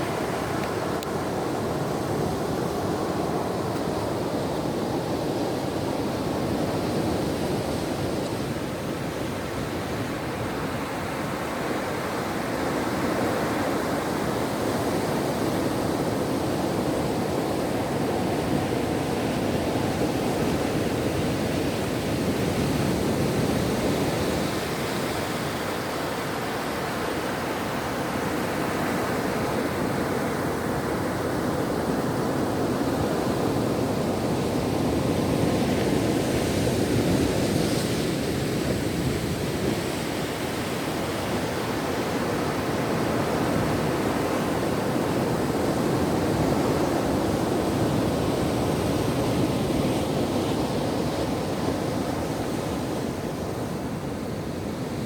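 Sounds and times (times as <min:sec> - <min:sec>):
ocean waves on shore: 0:00.0 - 0:55.0.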